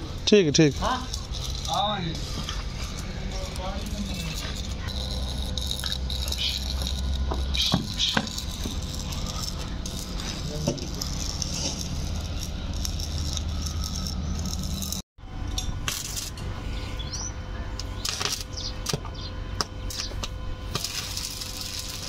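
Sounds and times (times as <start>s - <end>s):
electric welder humming and crackling: 0.0s - 22.0s.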